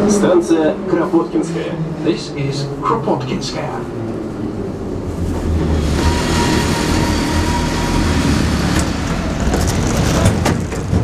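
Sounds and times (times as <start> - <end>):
metro train running with whine: 0.0 - 11.0.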